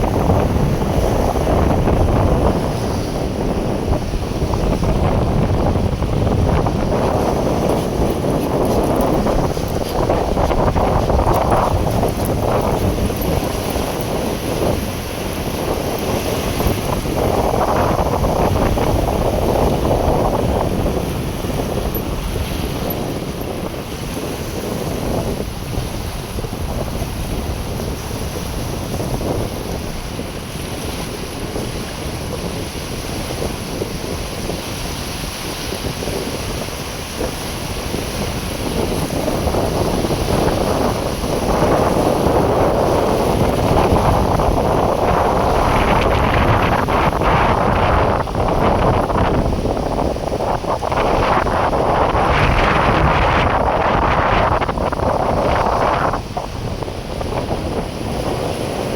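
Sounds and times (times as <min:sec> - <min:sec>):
surf: 0:00.0 - 0:58.9
wind buffeting microphone: 0:00.0 - 0:58.9.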